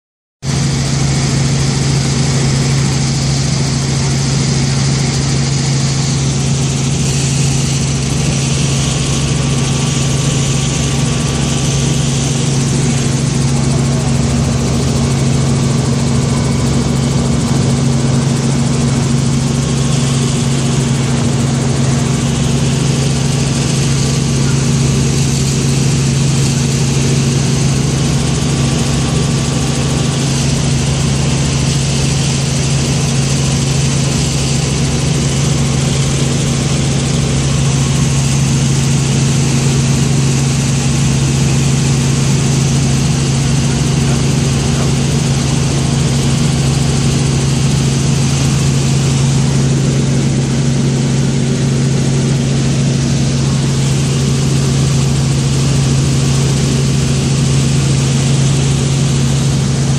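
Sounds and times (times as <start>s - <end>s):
helicopter engine and rotor hum: 0.4s - 59.9s.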